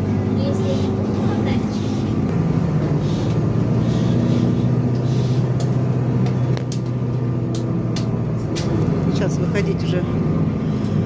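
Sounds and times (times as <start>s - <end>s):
bus engine hum: 0.0s - 11.0s
road noise: 0.0s - 11.0s.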